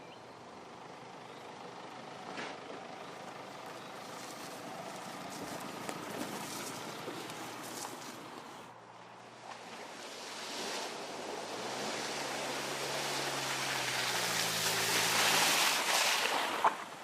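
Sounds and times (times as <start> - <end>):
car approaching tyre and engine noise: 0.0 - 17.0.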